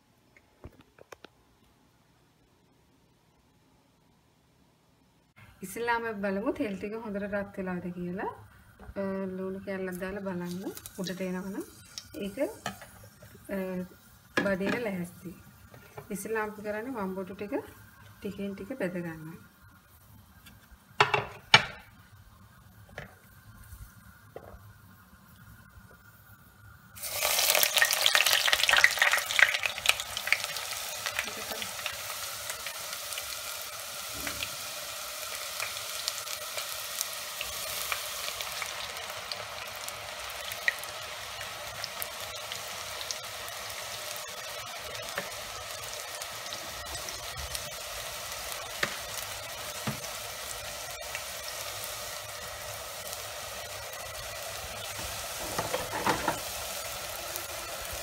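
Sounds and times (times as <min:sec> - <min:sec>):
eggplant deep-frying in oil: 0:05.6 - 0:58.0.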